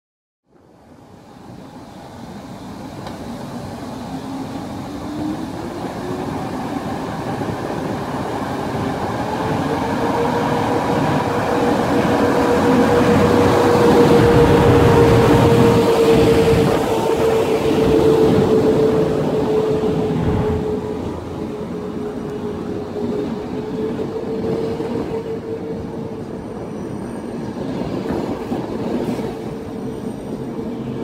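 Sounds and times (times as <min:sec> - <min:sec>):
electric locomotive whine: 0:00.5 - 0:31.0
train rumble: 0:00.6 - 0:31.0.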